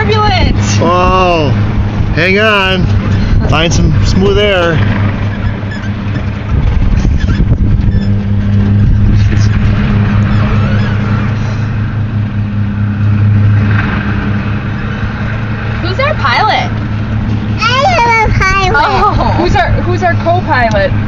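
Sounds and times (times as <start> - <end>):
small airplane engine droning: 0.0 - 21.0.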